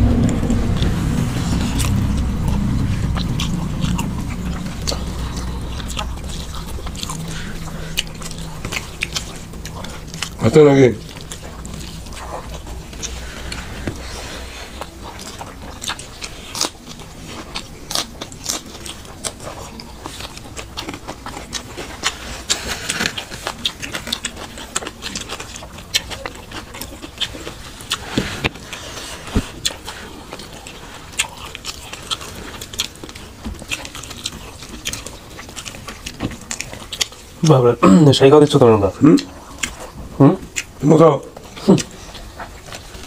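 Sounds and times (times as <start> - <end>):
chewing and lip-smacking: 0.0 - 43.0.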